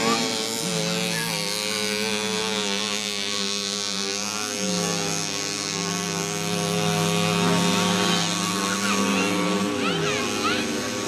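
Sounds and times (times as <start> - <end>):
moped engines buzzing: 0.0 - 11.0.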